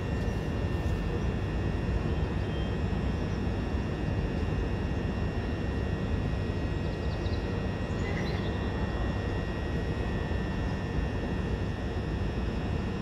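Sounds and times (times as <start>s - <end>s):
train hum and rumble: 0.0s - 13.0s.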